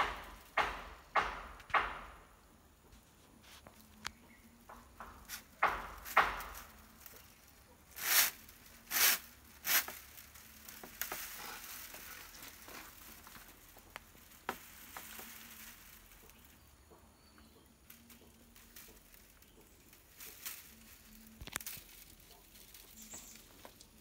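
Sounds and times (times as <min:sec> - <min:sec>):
dry leaf midribs rustling: 0:03.0 - 0:24.0.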